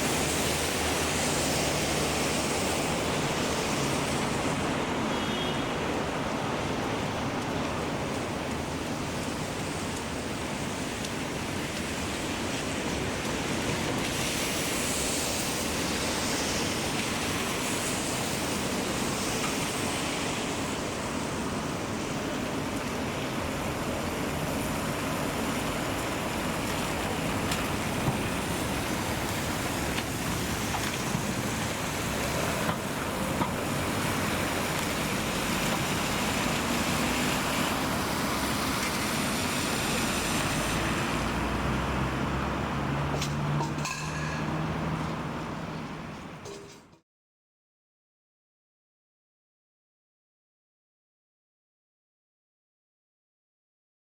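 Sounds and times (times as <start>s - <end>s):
heavy rain hissing: 0.0s - 43.5s.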